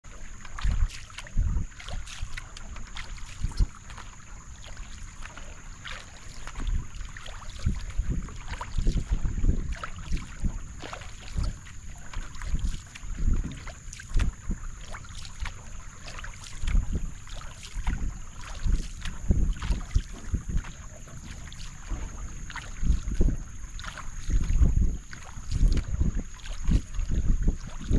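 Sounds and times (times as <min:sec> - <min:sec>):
paddle splashing in water: 0:00.0 - 0:27.9
wind buffeting microphone: 0:00.2 - 0:27.9.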